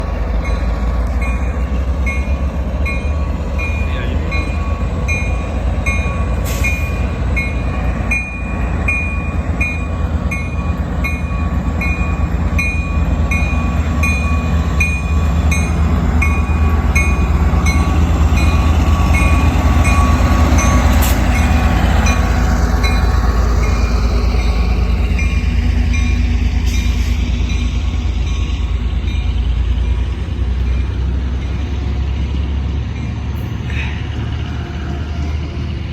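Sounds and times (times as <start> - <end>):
train rumbling: 0.0 - 35.9.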